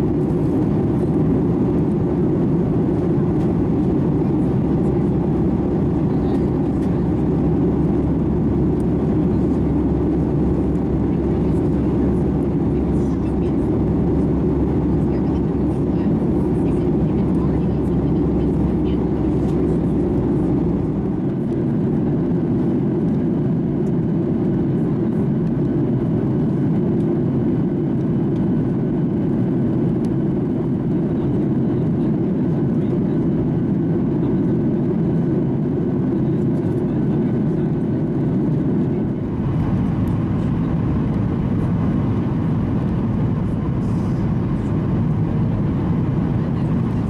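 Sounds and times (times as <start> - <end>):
jet cabin noise: 0.0 - 47.0.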